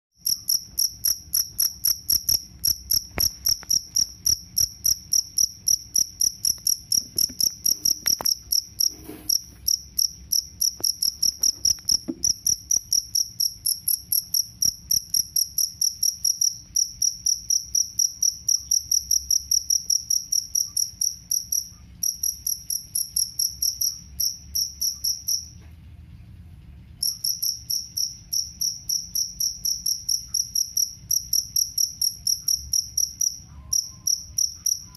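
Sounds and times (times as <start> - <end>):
cricket chirping: 0.2 - 25.5, 27.0 - 34.9.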